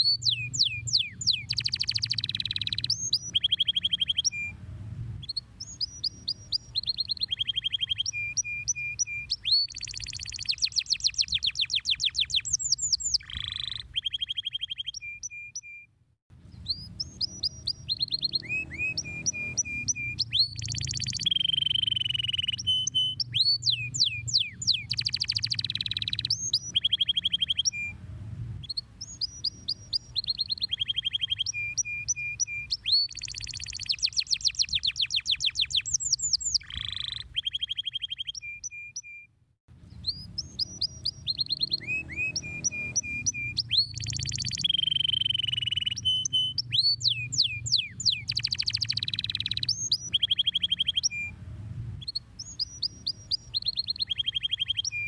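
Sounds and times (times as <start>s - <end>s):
canary singing trills: 0.0s - 4.6s, 5.2s - 15.9s, 16.5s - 28.0s, 28.6s - 51.4s, 52.0s - 55.0s.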